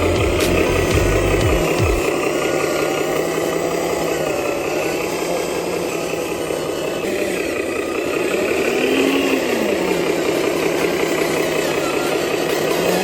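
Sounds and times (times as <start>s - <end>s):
faint wavering whine: 0.0s - 13.0s
toy truck motor running: 0.0s - 13.0s.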